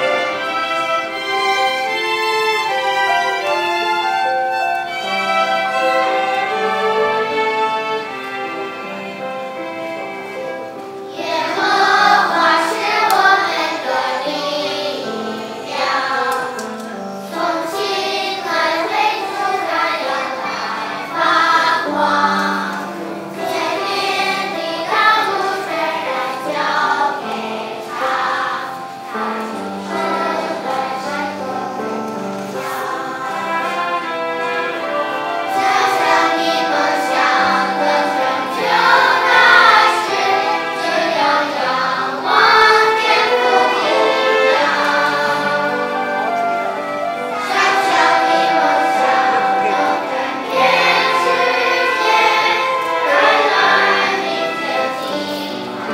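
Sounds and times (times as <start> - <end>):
children's choir singing: 0.0 - 55.9.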